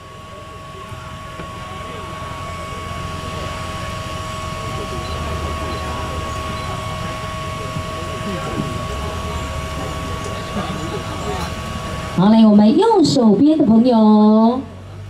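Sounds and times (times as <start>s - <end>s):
steady high tone: 0.0s - 14.9s
crowd chatter: 0.0s - 15.0s
steady hum: 0.0s - 15.0s.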